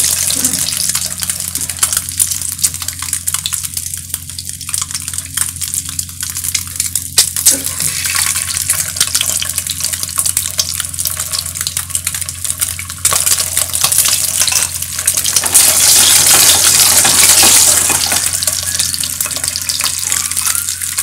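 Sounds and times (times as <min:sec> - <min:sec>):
eggs sizzling in hot oil: 0:00.0 - 0:21.0.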